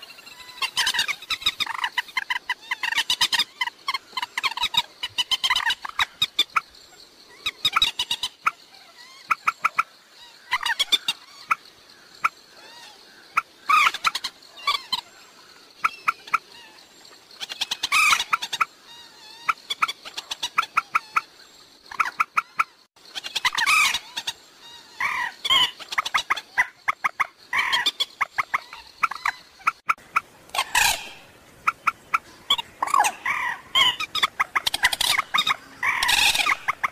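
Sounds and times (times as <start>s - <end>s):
moorhen clucking chatter: 0.0s - 36.9s.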